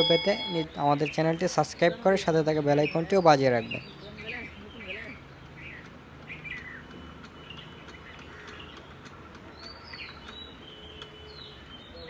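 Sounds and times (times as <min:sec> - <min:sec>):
low steady background: 0:00.0 - 0:11.1
small birds chirping: 0:00.0 - 0:12.0.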